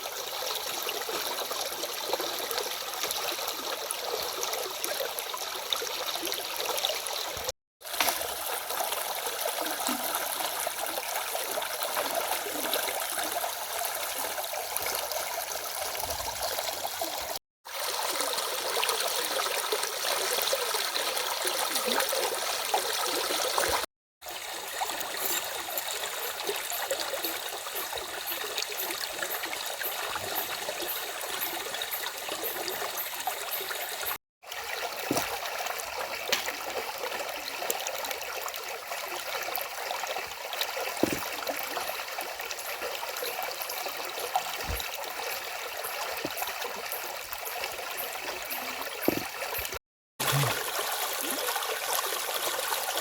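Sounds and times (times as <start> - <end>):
stream running: 0.0 - 53.0.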